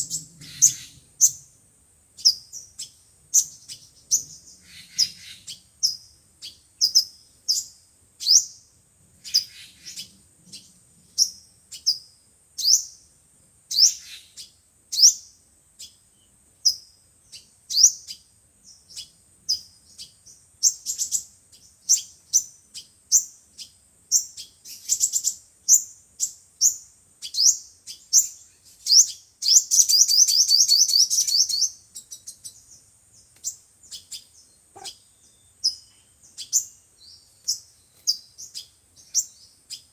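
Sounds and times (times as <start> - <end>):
sunbirds chirping: 0.0 - 39.9.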